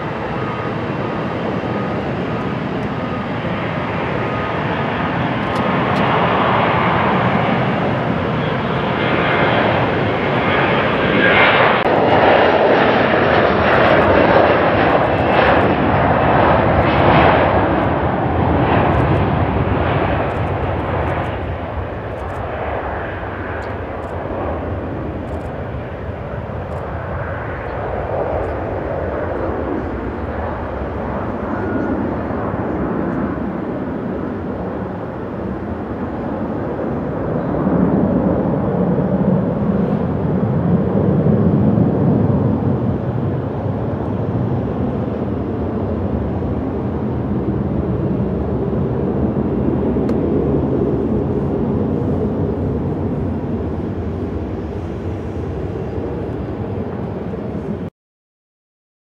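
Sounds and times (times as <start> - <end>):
jet airliner engine rumble: 0.0 - 57.9.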